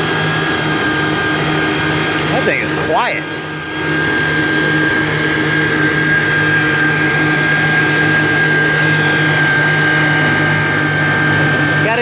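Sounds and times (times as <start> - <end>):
high whine: 0.0 - 12.0
watercraft engine running: 0.0 - 12.0.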